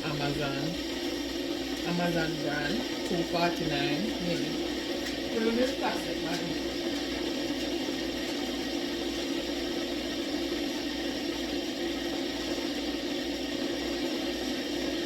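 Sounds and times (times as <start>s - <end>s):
kitchen appliance whirring: 0.0s - 15.0s.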